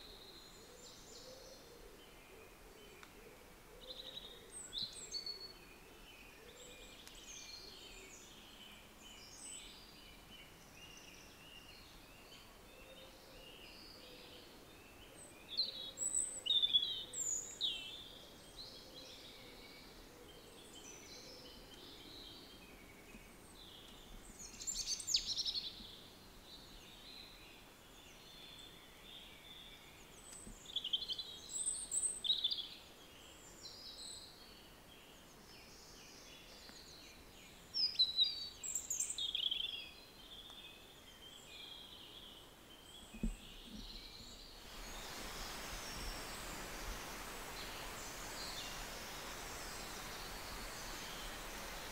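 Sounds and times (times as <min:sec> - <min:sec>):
steady low hiss: 0:00.0 - 0:51.9.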